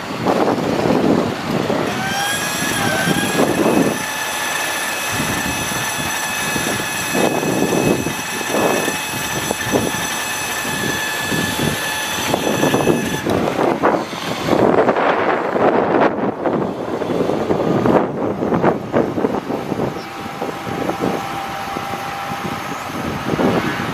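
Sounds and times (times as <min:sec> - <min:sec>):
high-pitched mechanical whine: 0:00.0 - 0:23.9.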